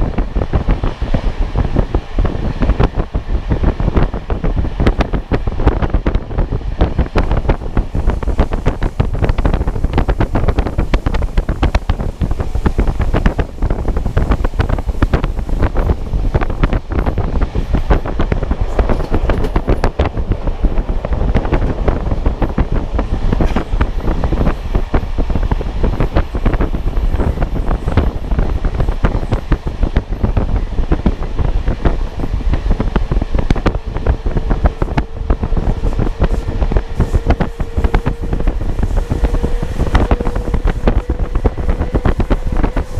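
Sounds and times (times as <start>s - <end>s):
train running noise: 0.0s - 42.9s
wind buffeting microphone: 0.0s - 42.9s.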